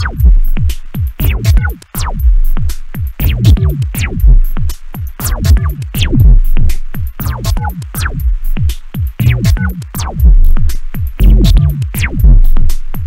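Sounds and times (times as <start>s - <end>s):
deep bass: 0.0s - 12.8s
drum machine beat: 0.0s - 13.0s
fast ticking hi-hat: 0.0s - 13.0s.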